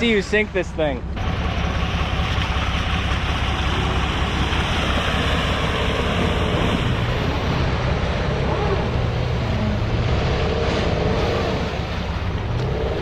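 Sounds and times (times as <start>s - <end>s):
vehicle engine rumble: 0.0s - 13.0s
broad rushing noise: 1.2s - 13.0s.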